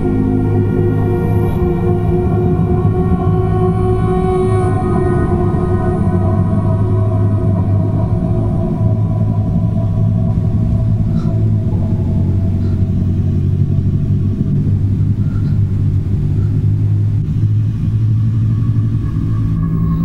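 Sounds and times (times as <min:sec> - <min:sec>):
loud low rumble: 0:00.0 - 0:20.0.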